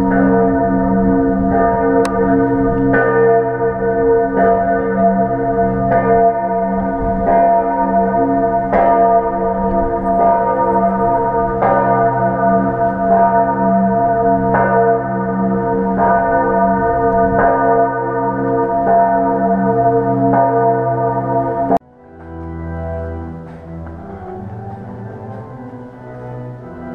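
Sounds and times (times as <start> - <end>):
church bells ringing: 0.0 - 26.9.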